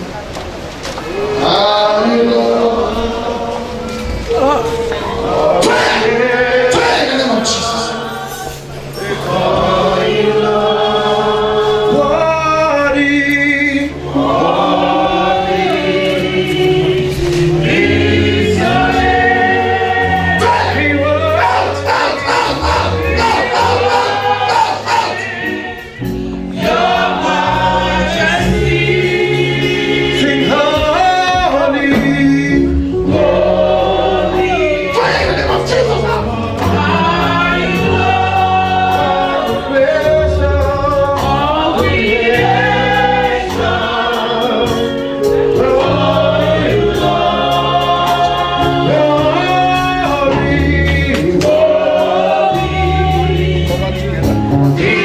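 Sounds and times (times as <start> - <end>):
choir singing gospel: 0.0 - 55.0
bass line: 9.3 - 55.0.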